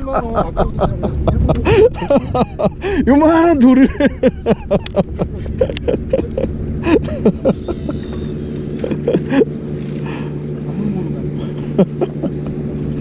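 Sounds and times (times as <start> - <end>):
people talking: 0.0 - 9.5, 10.6 - 13.0
boat engine idling: 0.0 - 13.0.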